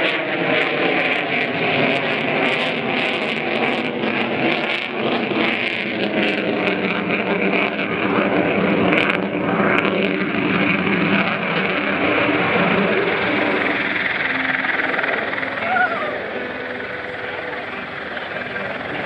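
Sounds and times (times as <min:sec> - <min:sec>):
jet engine roar: 0:00.0 - 0:19.0
piston engine drone: 0:00.0 - 0:19.0.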